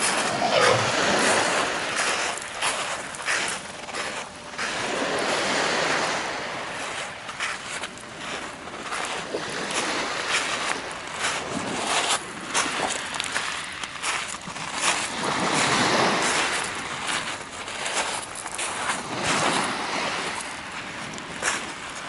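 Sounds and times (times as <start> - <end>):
footsteps crunching on sand: 0.0 - 22.0
sea surf washing on shore: 0.0 - 22.0.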